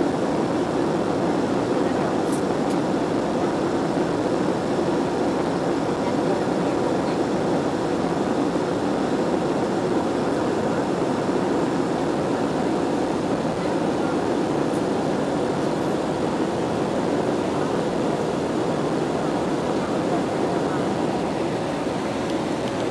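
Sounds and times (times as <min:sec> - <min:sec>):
jet engine cabin rumble: 0:00.0 - 0:22.9.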